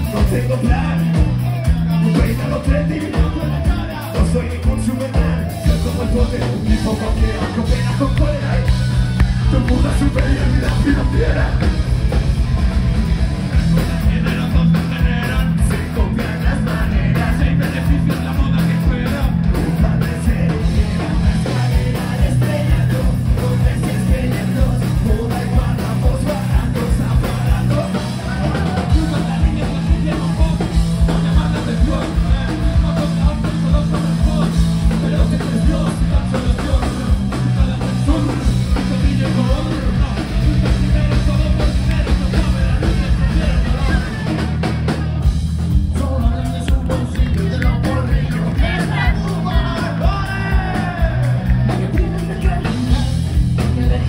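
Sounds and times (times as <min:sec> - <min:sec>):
live band drums and bass: 0:00.0 - 0:54.0
people singing into microphones: 0:01.7 - 0:11.8, 0:14.0 - 0:44.5, 0:46.0 - 0:54.0.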